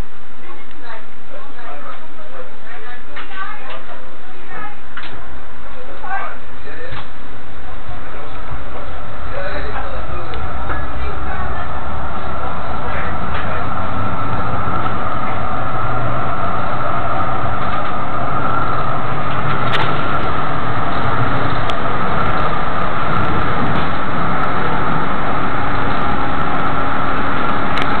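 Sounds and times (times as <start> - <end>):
constant whine: 0.0 - 28.0
tram rumble and hiss: 0.0 - 28.0.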